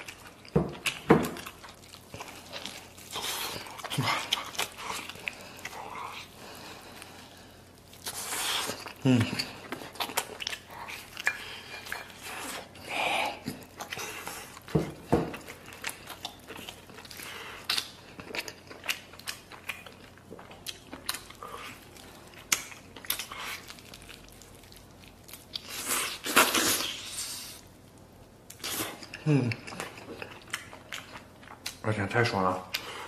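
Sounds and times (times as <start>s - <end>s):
person chewing meat off bone: 0.0s - 27.7s, 28.5s - 31.8s.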